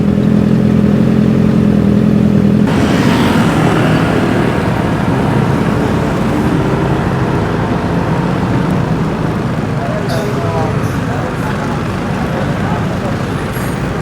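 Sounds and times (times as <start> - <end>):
motorbike engine running: 0.0 - 14.0
wind and road noise: 0.0 - 14.0.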